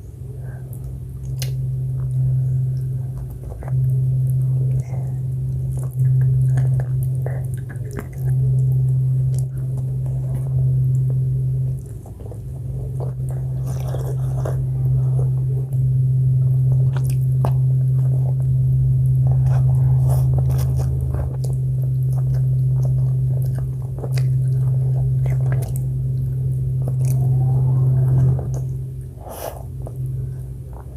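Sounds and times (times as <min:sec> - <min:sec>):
steady low hum: 0:00.0 - 0:30.9
biting and chewing food: 0:00.7 - 0:30.9.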